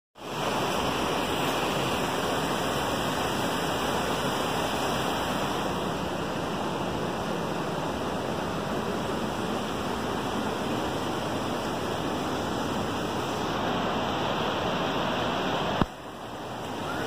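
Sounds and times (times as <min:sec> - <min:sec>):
rushing mountain river: 0:00.2 - 0:17.0.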